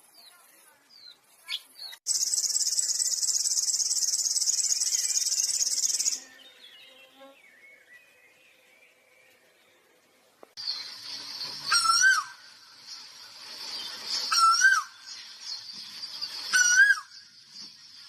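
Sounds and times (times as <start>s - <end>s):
faint chirps: 0.0s - 18.0s.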